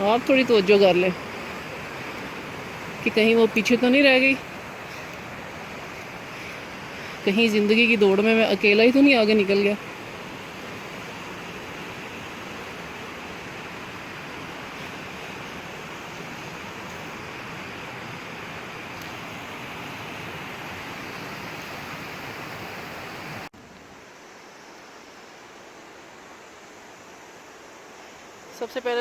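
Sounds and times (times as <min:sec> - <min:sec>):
fast-flowing water rushing: 0:00.0 - 0:23.5.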